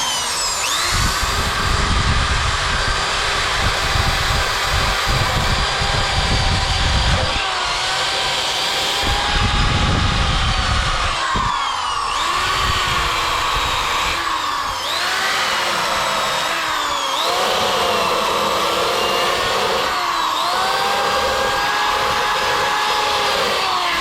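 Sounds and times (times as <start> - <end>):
electric drill motor whining: 0.0 - 24.0.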